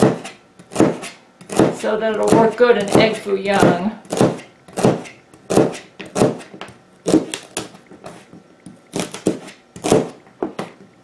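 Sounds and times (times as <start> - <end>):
knife chopping on cutting mat: 0.0 - 10.8.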